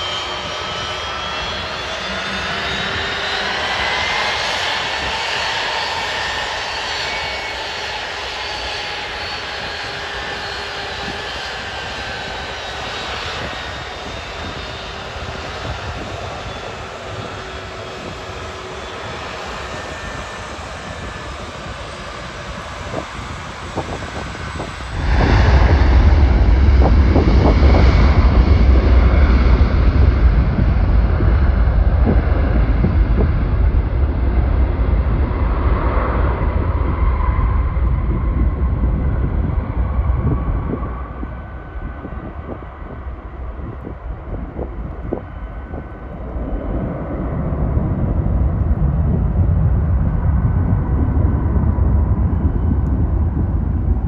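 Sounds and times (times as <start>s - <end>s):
jet engines taking off: 0.0s - 54.0s.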